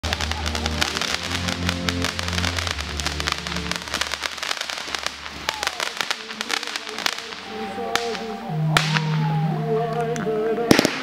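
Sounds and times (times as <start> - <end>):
firework crackling pops: 0.0 - 9.3, 10.7 - 11.0
firework falling whistle: 0.0 - 9.4
background music low notes: 0.0 - 11.0.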